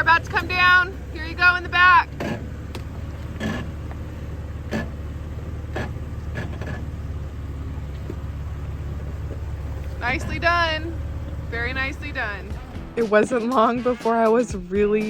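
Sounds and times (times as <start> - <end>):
vehicle knocking on rocks: 0.0 - 13.1
off-road vehicle engine running: 0.0 - 15.0.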